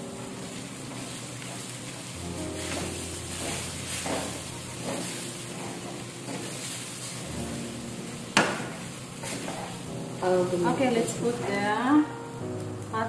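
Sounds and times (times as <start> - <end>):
rice sizzling in a pan: 0.0 - 13.0
wooden spatula scraping a pan: 0.4 - 7.9, 8.7 - 11.9.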